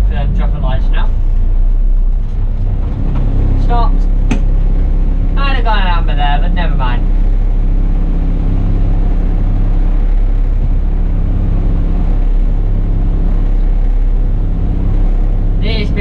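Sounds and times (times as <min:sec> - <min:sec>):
diesel bus engine droning: 0:00.0 - 0:16.0.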